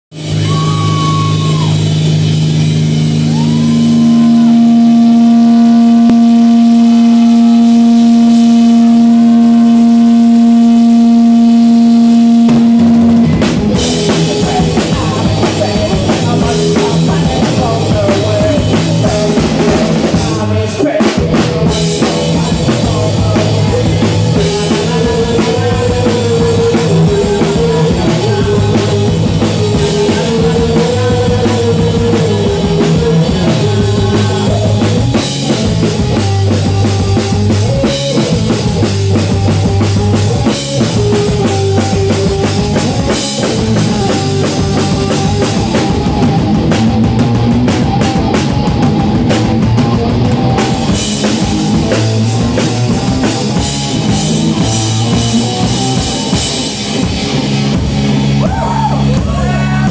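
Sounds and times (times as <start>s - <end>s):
drums: 0.0s - 59.9s
distorted electric guitar note: 0.1s - 20.3s, 21.7s - 59.9s
rock band playing: 0.1s - 59.9s.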